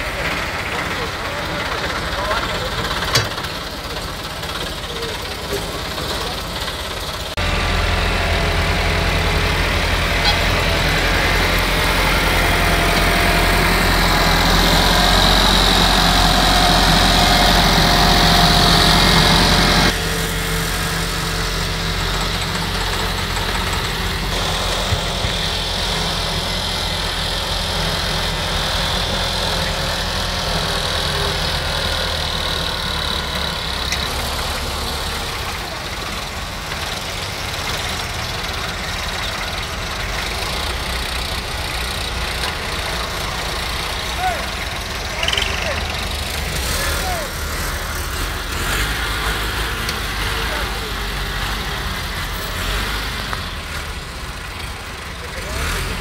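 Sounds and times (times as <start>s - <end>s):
diesel tractor engines running: 0.0s - 56.0s.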